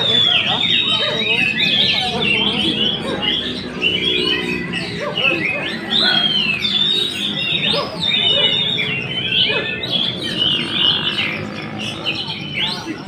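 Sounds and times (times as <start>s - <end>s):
bird singing whistles and chatter: 0.0s - 13.0s.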